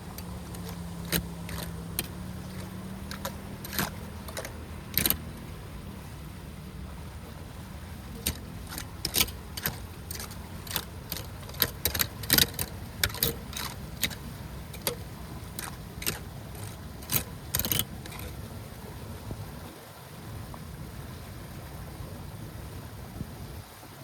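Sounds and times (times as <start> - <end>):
low rush of water: 0.0 - 24.0.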